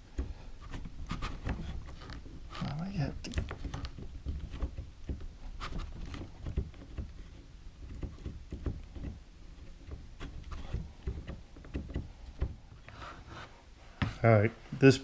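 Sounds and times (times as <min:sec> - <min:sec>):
small clicks and knocks: 0:00.0 - 0:13.0.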